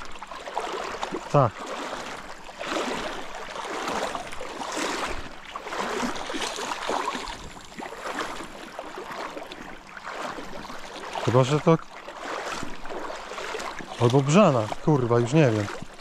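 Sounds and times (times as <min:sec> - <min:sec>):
river water splashing and rushing: 0:00.0 - 0:16.0.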